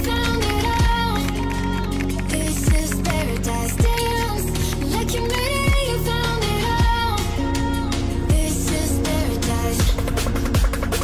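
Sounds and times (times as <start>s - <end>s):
pop music with kick drum: 0.0s - 11.0s.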